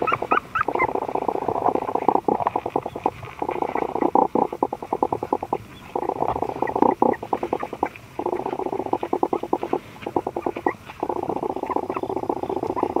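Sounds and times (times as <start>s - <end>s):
puppies fast pulsing patter: 0.0s - 13.0s.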